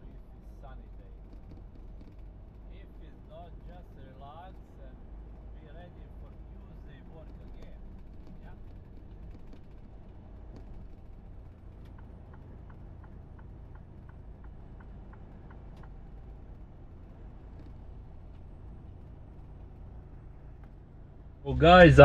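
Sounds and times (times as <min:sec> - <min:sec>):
light evenly spaced ticks: 0:00.0 - 0:21.4
truck rumble: 0:00.0 - 0:22.0.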